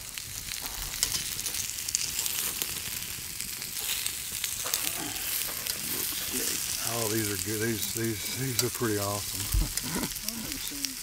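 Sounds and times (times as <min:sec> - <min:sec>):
vegetables sizzling in wok: 0:00.0 - 0:11.0.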